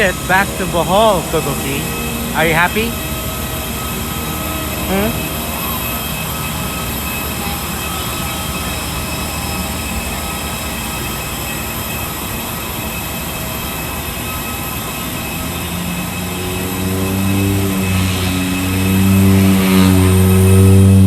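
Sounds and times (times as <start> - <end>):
faint constant tones: 0.0 - 21.0
low pitched drone: 0.0 - 21.0.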